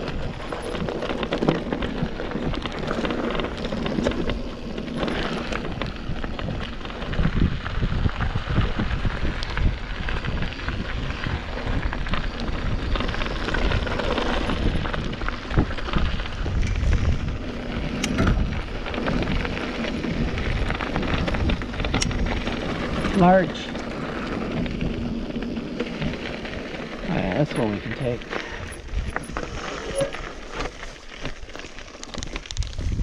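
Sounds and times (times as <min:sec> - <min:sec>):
bike rattling and knocking: 0:00.0 - 0:33.0
tyres crunching over gravel: 0:00.0 - 0:33.0.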